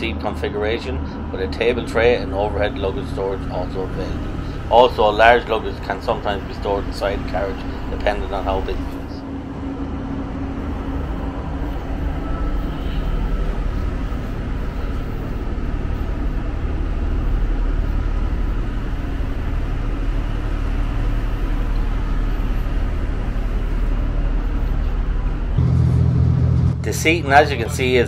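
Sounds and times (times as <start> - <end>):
train diesel engine drone: 0.0 - 28.0.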